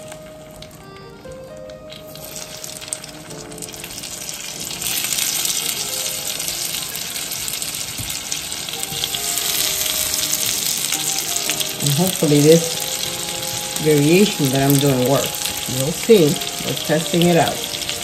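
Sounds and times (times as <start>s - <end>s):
apple sizzling in caramel: 0.0s - 18.0s.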